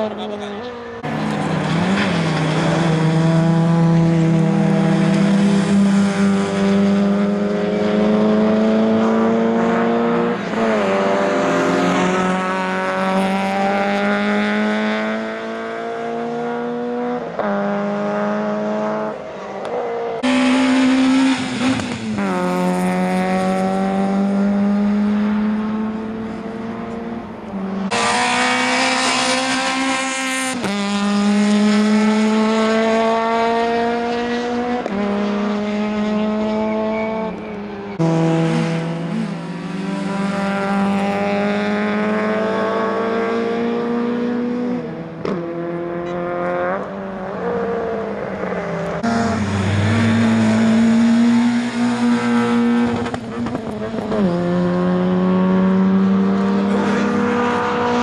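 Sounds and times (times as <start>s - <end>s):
rally car engines accelerating: 0.0s - 58.0s.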